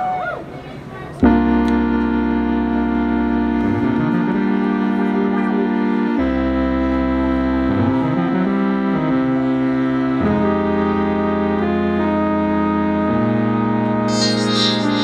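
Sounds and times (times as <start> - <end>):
keyboard playing held chords: 1.2 - 15.0.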